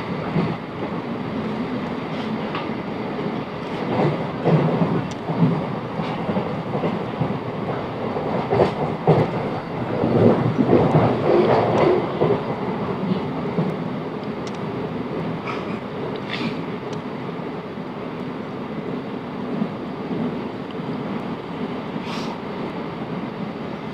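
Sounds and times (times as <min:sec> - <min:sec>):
train rumble: 0:00.0 - 0:23.9.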